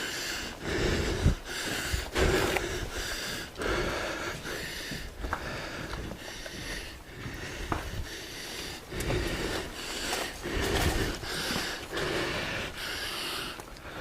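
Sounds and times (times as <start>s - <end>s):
person breathing heavily: 0.0s - 14.0s.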